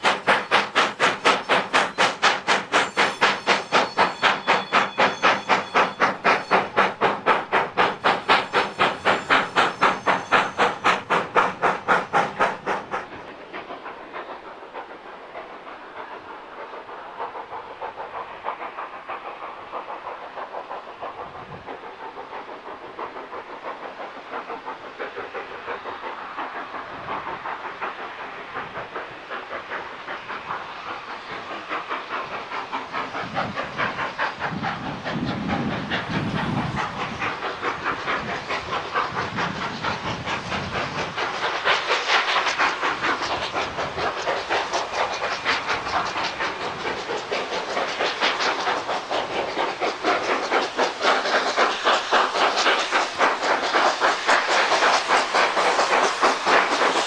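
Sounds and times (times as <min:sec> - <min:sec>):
steam locomotive chuffing: 0:00.0 - 0:57.0.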